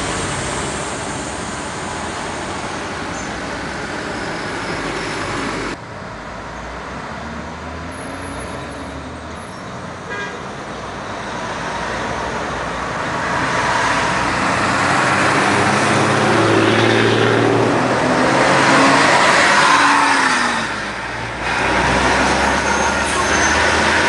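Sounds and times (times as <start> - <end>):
diesel engines of passing vehicles: 0.0 - 24.0
tyre and road noise: 0.0 - 24.0.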